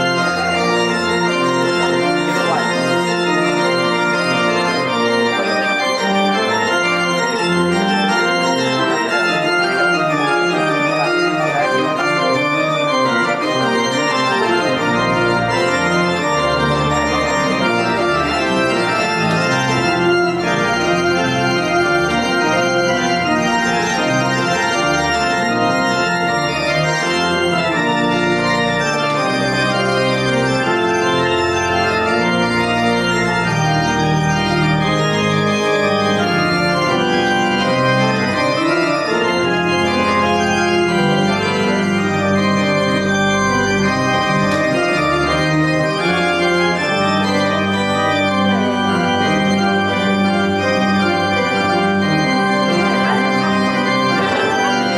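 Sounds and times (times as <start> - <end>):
church organ chords: 0.0 - 54.9.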